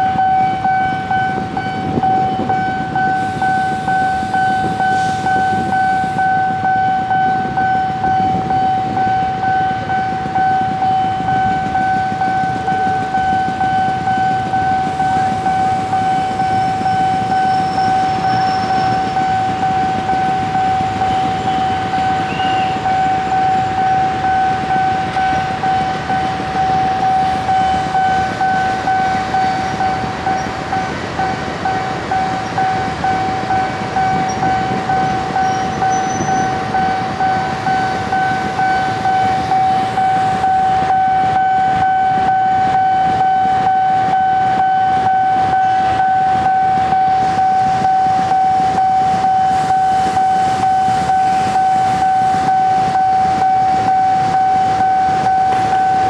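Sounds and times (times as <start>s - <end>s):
approaching train: 0.0s - 56.0s
level crossing alarm pulsing: 0.0s - 56.0s
low rumble of traffic: 0.0s - 56.0s.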